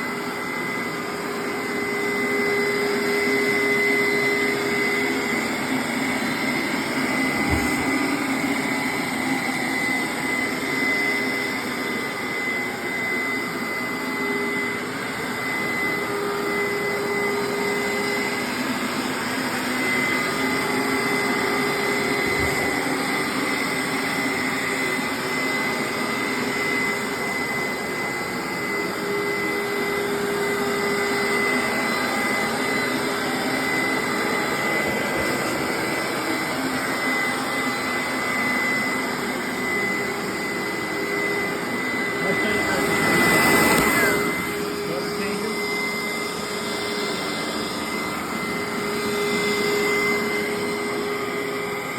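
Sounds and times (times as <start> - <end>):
carpet cleaner motor whine: 0.0 - 51.9.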